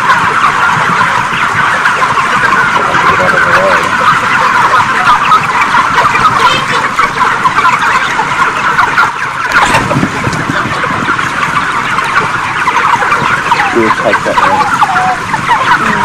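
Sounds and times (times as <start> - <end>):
chickens cheeping and clucking: 0.0 - 16.0.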